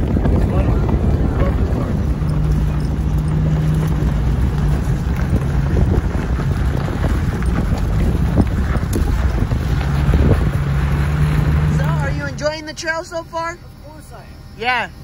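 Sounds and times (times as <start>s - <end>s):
wind buffeting microphone: 0.0s - 12.6s
vehicle engine droning: 0.0s - 15.0s.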